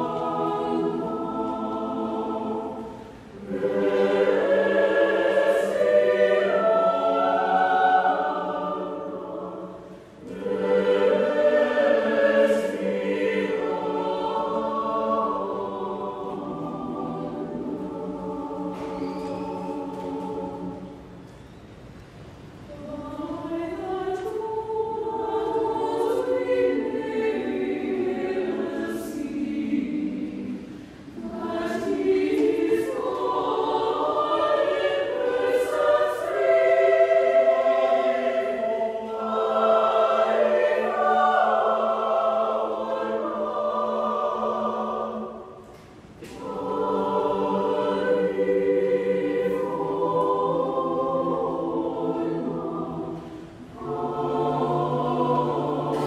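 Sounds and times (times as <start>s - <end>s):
mixed choir singing a cappella: 0.0s - 21.5s, 22.7s - 56.0s.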